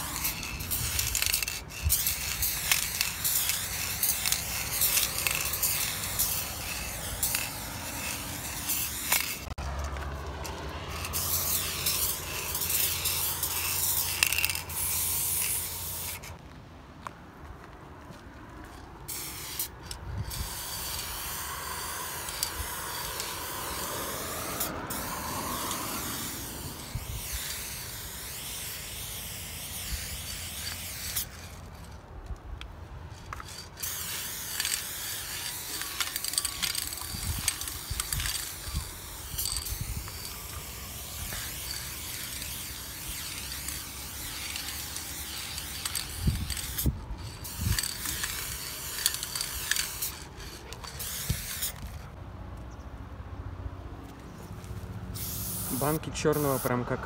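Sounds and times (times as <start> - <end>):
spray-paint can hissing: 0.0 - 9.6, 10.2 - 16.4, 19.1 - 31.9, 33.2 - 52.0, 55.2 - 56.7.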